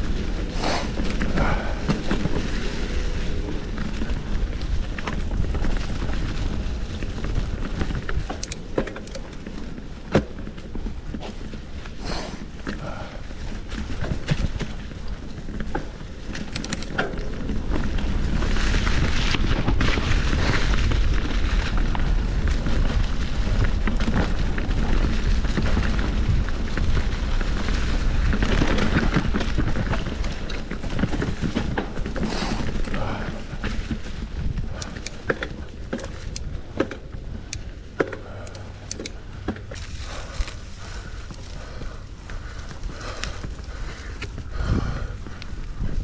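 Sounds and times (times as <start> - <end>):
bike rattling over rough ground: 0.0 - 46.0
wind buffeting microphone: 0.0 - 46.0.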